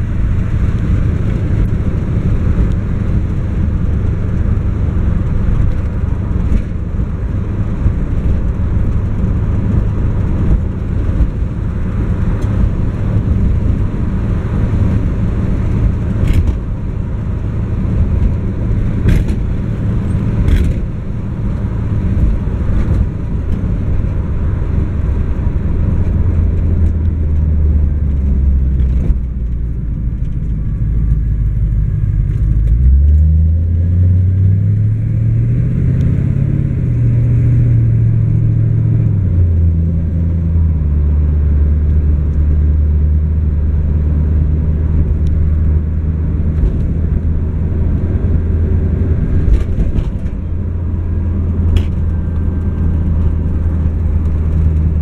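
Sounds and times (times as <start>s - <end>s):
car engine revving: 0.0s - 55.0s
road rumble: 0.0s - 55.0s.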